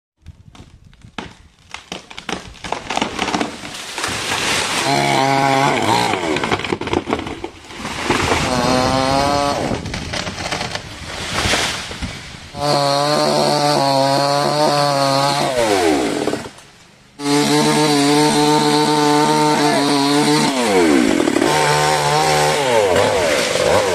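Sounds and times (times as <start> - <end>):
chainsaw cutting branch: 1.8 - 23.9.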